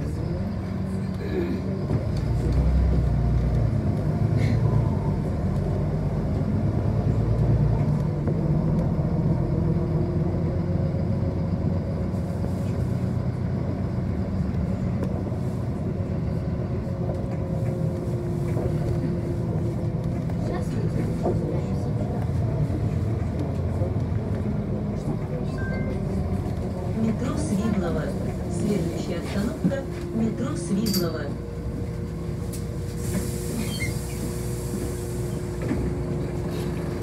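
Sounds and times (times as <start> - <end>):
bus motor and road rumble: 0.0 - 37.0.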